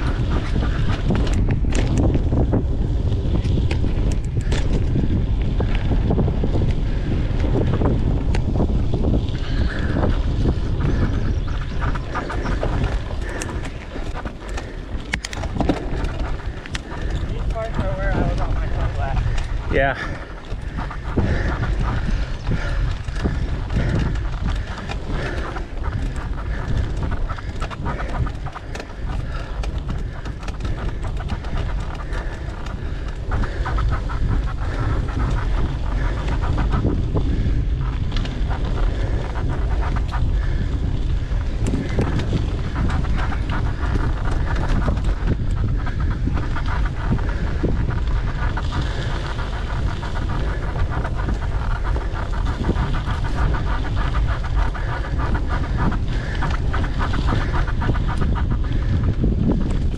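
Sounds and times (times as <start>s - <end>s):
bike rattling and clicking: 0.0s - 59.9s
wind buffeting microphone: 0.0s - 59.9s.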